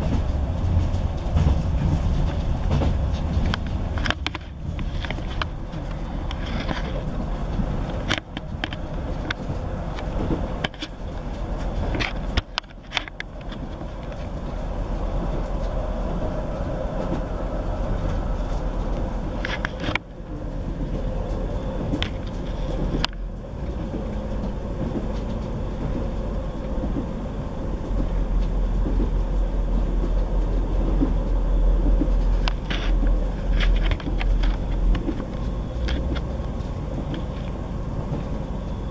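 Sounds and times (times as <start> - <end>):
train interior rumble and hiss: 0.0 - 38.9.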